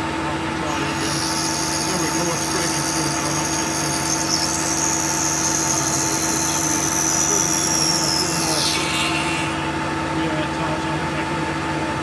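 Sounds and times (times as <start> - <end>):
mill cutting metal whine: 0.0 - 12.0
steady machine hum: 0.0 - 12.0.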